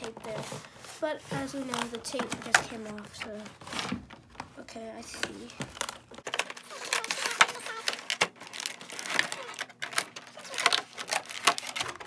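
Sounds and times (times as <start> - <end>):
plastic and cardboard crinkling: 0.0 - 12.0.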